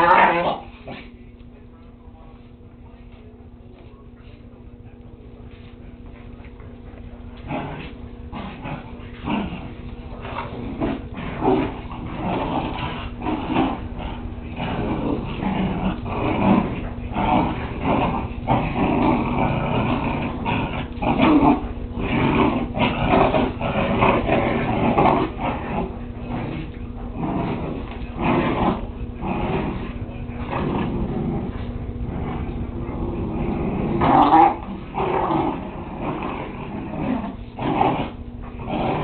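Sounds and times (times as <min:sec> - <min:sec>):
puppies play-growling: 0:00.0 - 0:39.0.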